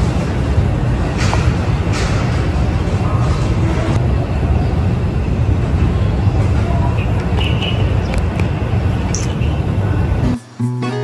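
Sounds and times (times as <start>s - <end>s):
low outdoor rumble: 0.0s - 10.4s.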